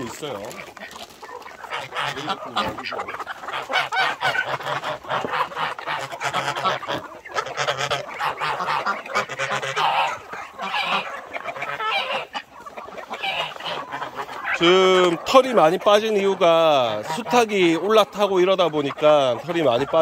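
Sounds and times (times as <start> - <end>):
poultry calling: 0.0 - 20.0.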